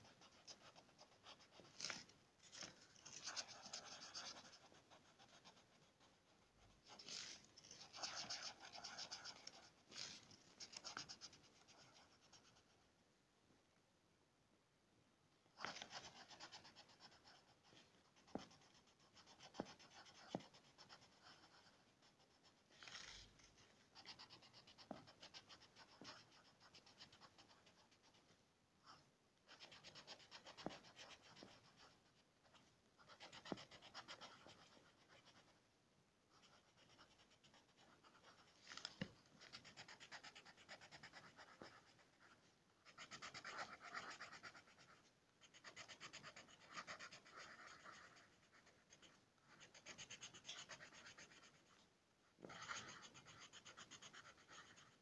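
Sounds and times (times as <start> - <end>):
pencil scratching on paper: 0.0 - 12.8, 15.6 - 28.3, 28.9 - 35.6, 36.3 - 51.8, 52.4 - 55.0.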